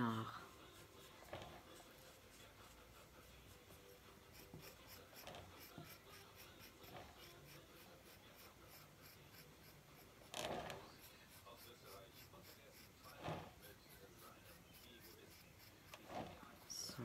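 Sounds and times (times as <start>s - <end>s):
wooden tool scraping clay: 0.0s - 17.0s.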